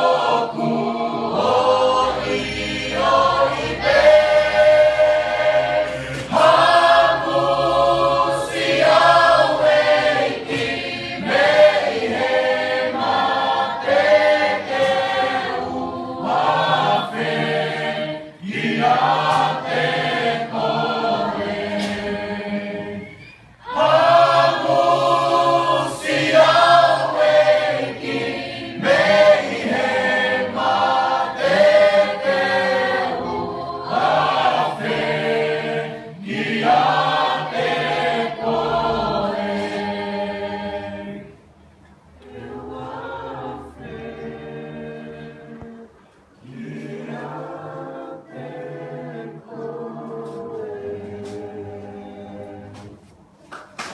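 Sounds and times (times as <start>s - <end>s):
choir singing a hymn: 0.0s - 53.2s.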